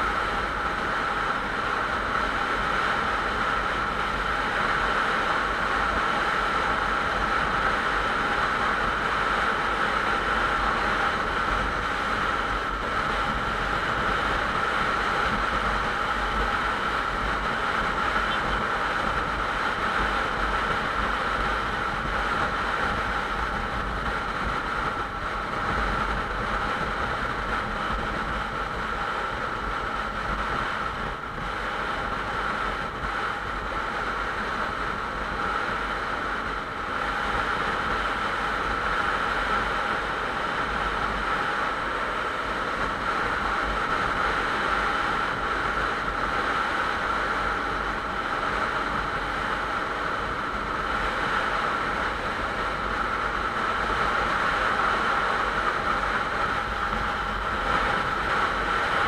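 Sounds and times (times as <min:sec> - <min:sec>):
motorcycle engine and road noise: 0:00.0 - 0:59.0
wind rushing over microphone: 0:00.0 - 0:59.0.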